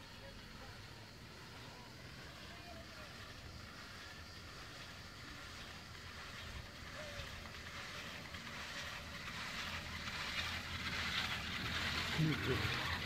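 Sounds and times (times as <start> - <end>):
cable running over sheave wheels: 0.0 - 13.0.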